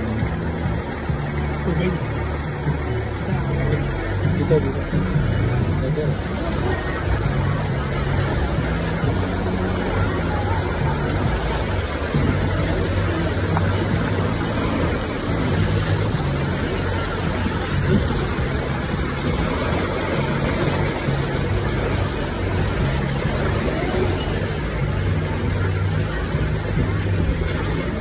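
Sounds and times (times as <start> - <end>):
engine humming at low speed: 0.0 - 28.0
water rushing and splashing: 0.0 - 28.0.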